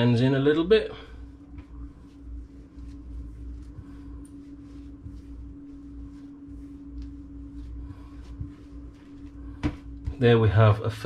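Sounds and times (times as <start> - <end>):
hands kneading bread dough: 0.0 - 10.5
steady low hum: 0.0 - 11.0.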